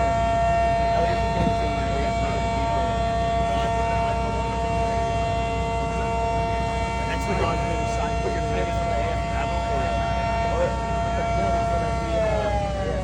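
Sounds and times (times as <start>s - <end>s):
sirens in steady chord: 0.0s - 13.0s.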